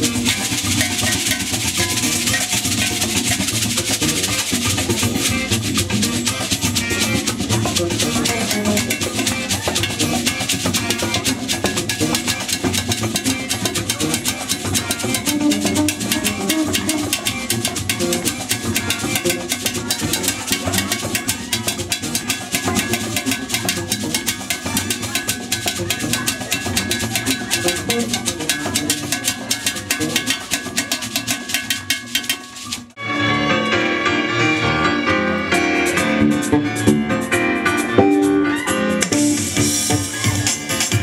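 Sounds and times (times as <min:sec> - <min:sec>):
bass guitar: 0:00.0 - 0:30.6, 0:33.0 - 0:41.0
hand drums fast rhythm: 0:00.0 - 0:33.0, 0:39.0 - 0:41.0
live band music: 0:00.0 - 0:41.0.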